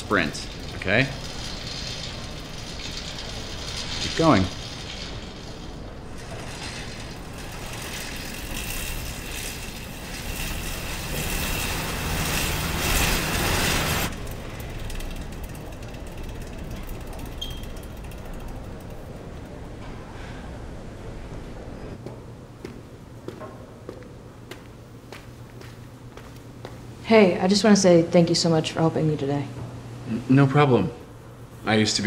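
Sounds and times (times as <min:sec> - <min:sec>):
air bike fan wheel whirring: 0:00.0 - 0:27.2.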